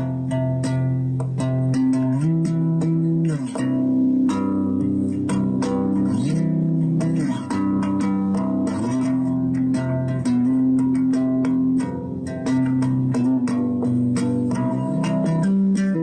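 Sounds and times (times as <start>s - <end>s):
guitar-led music with drum beat: 0.0s - 16.0s.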